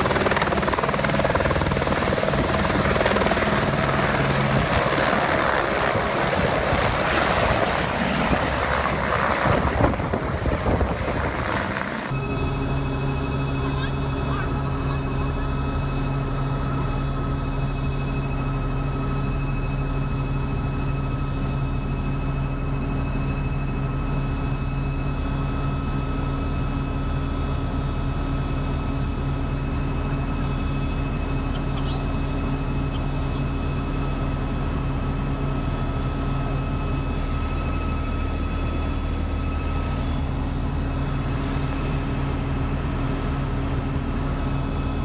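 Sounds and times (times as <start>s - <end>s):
helicopter engine and rotor drone: 0.0s - 45.0s
high turbine whine: 0.0s - 45.0s.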